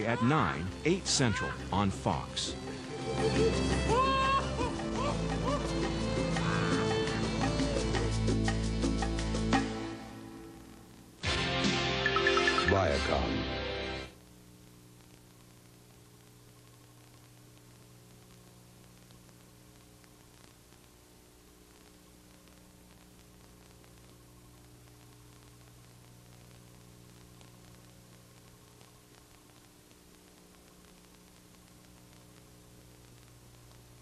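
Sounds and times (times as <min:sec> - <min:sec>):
faint electrical hum with hiss: 0:00.0 - 0:11.3, 0:12.5 - 0:34.0.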